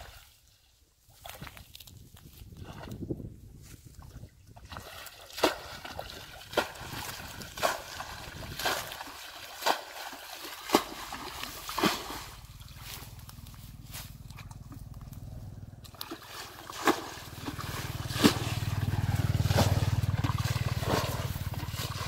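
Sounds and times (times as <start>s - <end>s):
muddy water splashing: 0.0s - 22.0s.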